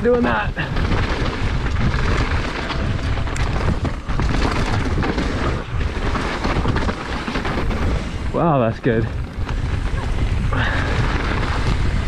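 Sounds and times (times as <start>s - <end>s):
bike clattering over roots: 0.0s - 12.0s
bike tyres rumbling on dirt: 0.0s - 12.0s
wind blasting microphone: 0.0s - 12.0s.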